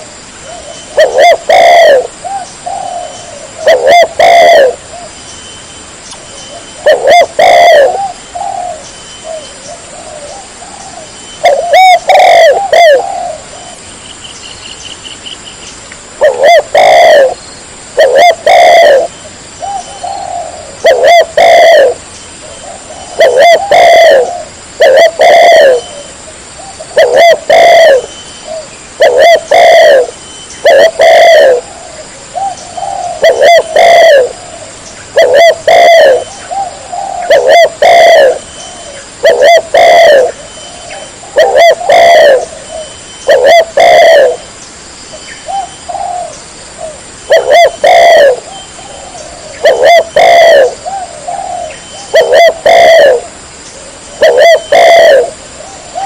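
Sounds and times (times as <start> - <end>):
dove cooing: 0.0 - 5.2, 6.5 - 13.9, 16.2 - 17.4, 18.0 - 44.5, 45.4 - 56.0.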